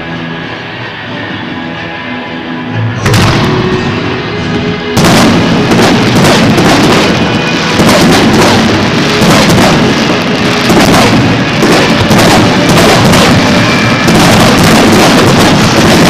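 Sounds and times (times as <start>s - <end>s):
fireworks bursting and crackling: 3.0s - 16.0s.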